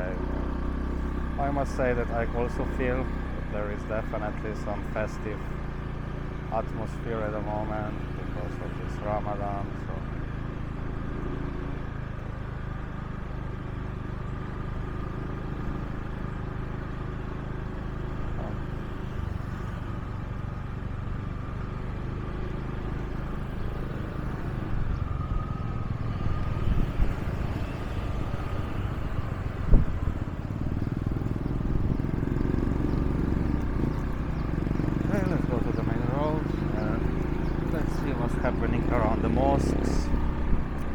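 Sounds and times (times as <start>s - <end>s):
motorbike engine running: 0.0s - 40.9s
road noise: 0.0s - 40.9s.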